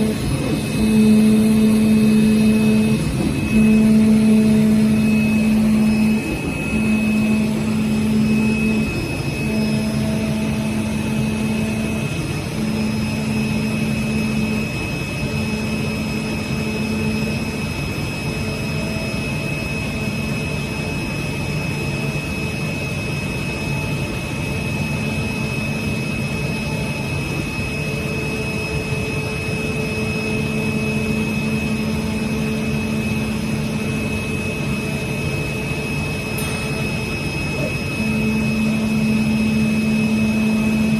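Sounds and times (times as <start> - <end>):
low motor hum: 0.0 - 20.9, 27.9 - 40.9
cutting machine whir and whine: 0.0 - 40.9.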